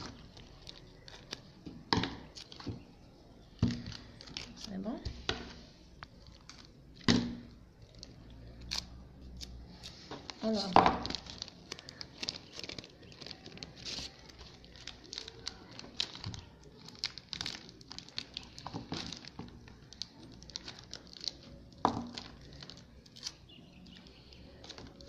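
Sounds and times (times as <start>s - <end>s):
plastic sleeve crinkling: 0.0s - 25.0s.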